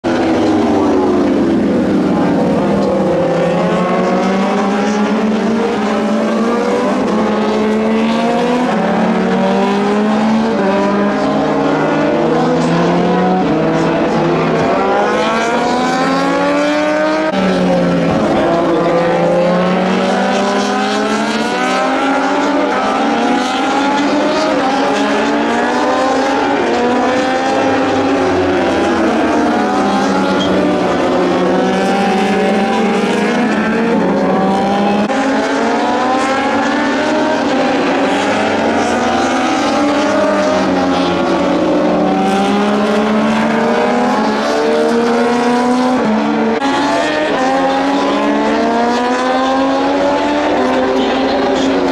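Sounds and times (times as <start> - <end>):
race motorcycles passing: 0.0 - 51.9.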